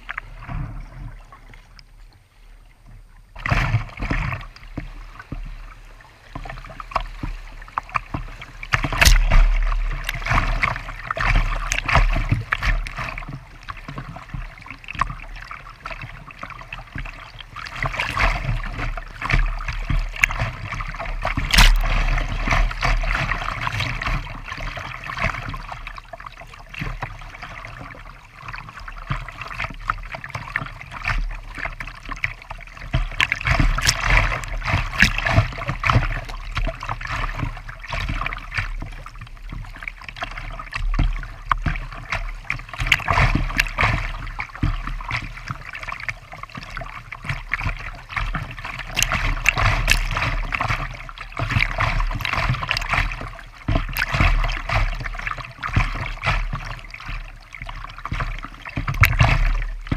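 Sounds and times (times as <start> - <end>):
water splashing against kayak: 0.0 - 59.9.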